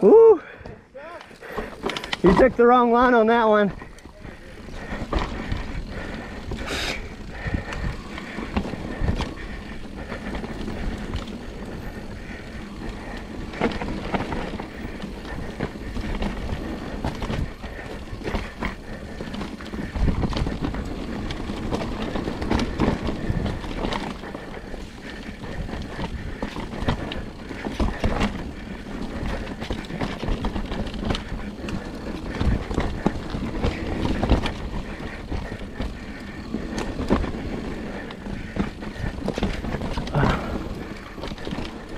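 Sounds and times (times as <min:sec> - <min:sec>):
tyres rumbling on dirt: 0:00.7 - 0:41.9
bike knocks and rattles: 0:03.8 - 0:41.9.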